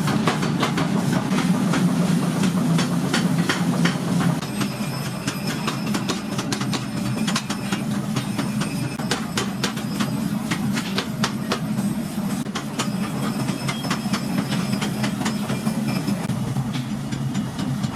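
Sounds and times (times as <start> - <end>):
machinery humming: 1.2 - 17.9.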